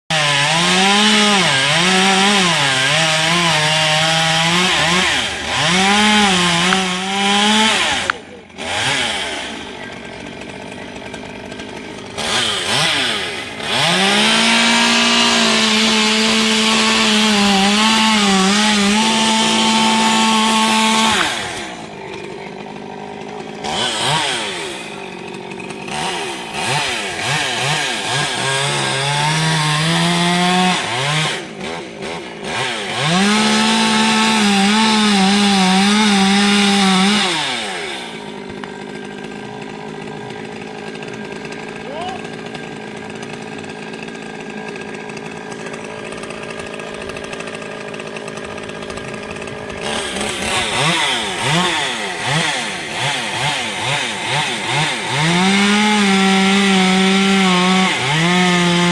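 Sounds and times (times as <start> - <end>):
chainsaw cutting wood: 0.1 - 58.9.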